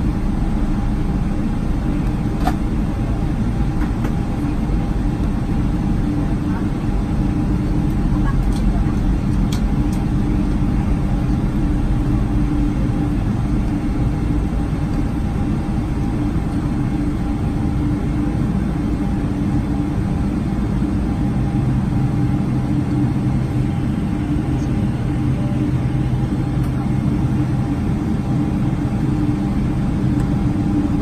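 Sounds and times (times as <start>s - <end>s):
jet engines humming in cabin: 0.0s - 31.0s.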